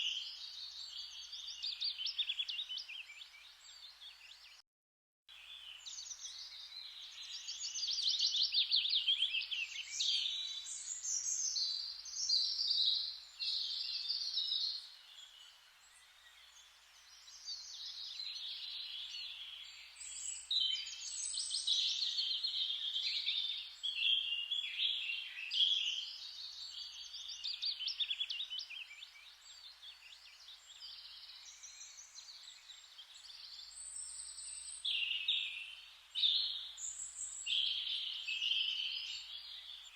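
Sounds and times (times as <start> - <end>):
songbirds chirping and trilling: 0.0 - 4.6, 5.3 - 39.9.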